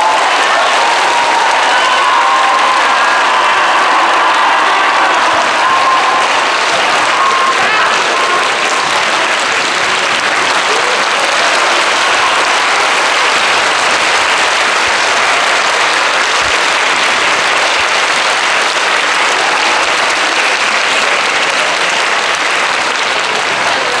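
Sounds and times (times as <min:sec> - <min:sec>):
large audience applauding: 0:00.0 - 0:24.0.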